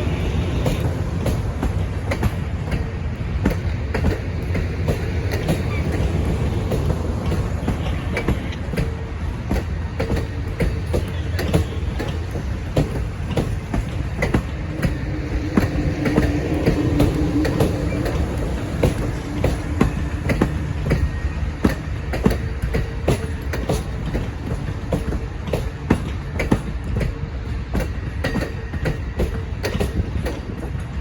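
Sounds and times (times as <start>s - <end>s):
clicks over rail joints: 0.0s - 31.0s
train wheels rumbling on rail: 0.0s - 31.0s.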